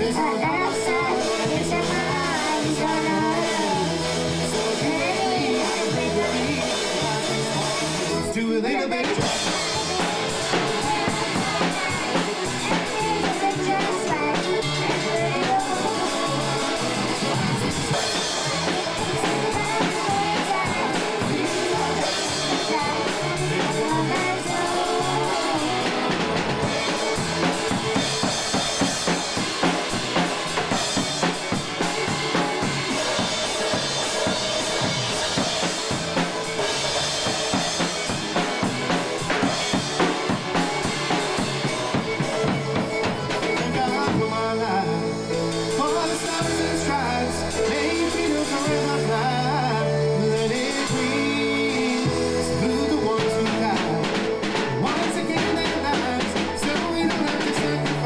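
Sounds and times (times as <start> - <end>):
child playing drum kit: 0.0 - 8.4, 9.0 - 58.0
polka band music playing: 0.0 - 58.0.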